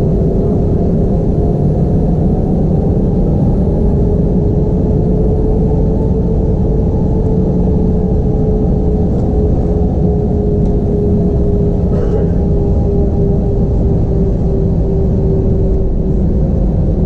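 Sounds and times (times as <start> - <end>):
jet engine drone in cabin: 0.0 - 17.0.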